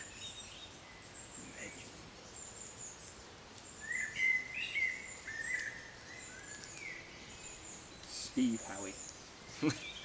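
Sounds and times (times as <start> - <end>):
birds chirping and warbling: 0.0 - 10.0
thin high bird calls: 0.0 - 10.0.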